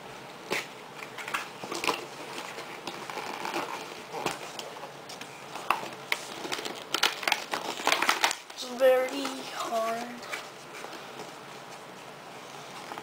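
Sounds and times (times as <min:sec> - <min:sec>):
rustling: 0:00.5 - 0:13.0.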